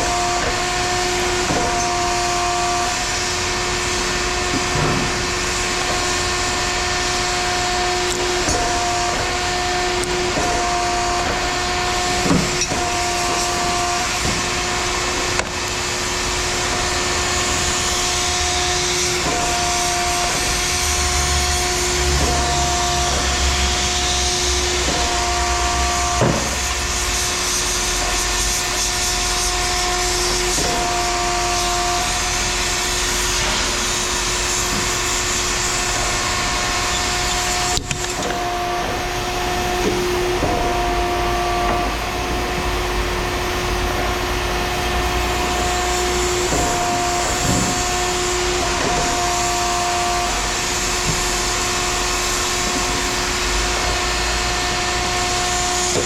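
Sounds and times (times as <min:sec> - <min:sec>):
loud machinery noise: 0:00.0 - 0:56.0
machine whine: 0:00.0 - 0:56.0.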